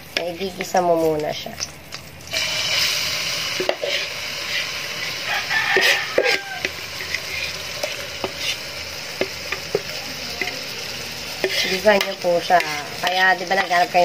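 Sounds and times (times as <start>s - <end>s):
garlic and onion sizzling in oil: 0.0s - 14.0s
metal spoon scraping a pan: 0.1s - 14.0s.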